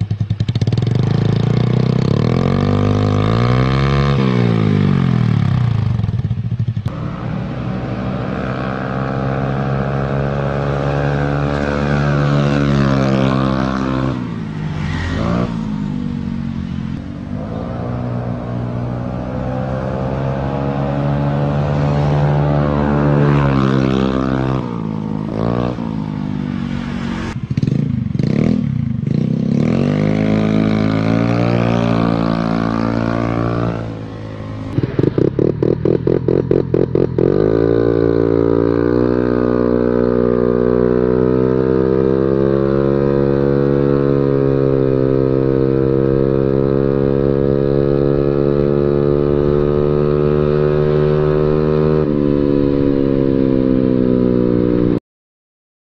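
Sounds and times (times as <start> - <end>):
scooter exhaust note: 0.0 - 55.0.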